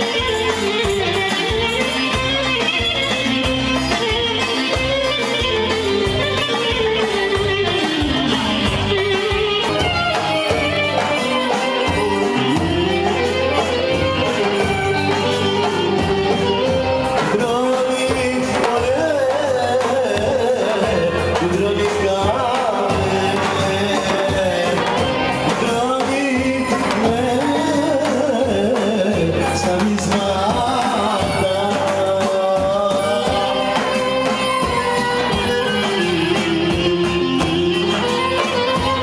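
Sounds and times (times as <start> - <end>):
band playing folk dance music: 0.0 - 39.0
person singing: 0.0 - 39.0.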